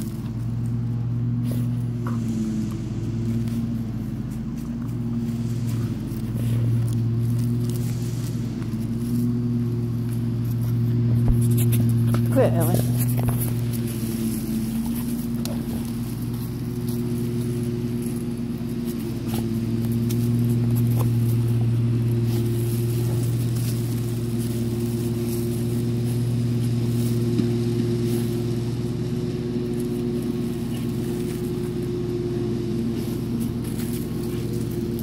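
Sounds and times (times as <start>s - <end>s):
dogs scratching in soil: 0.0s - 35.0s
low mechanical hum: 0.0s - 35.0s.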